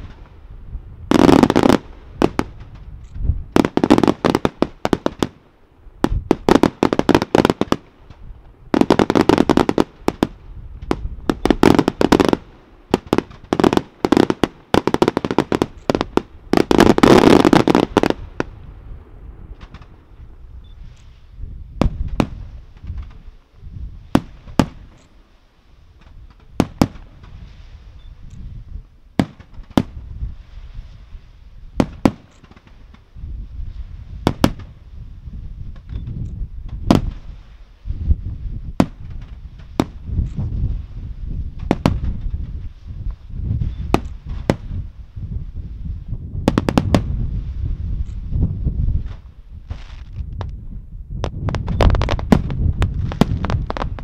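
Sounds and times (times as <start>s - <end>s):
fireworks bursts and crackling: 1.1s - 18.6s, 19.5s - 50.5s, 51.2s - 54.0s.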